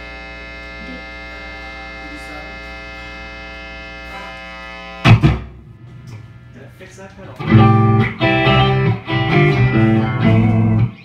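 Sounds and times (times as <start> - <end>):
electric guitar playing burst: 0.0 - 11.0
guitar amplifier mains hum: 0.0 - 11.0.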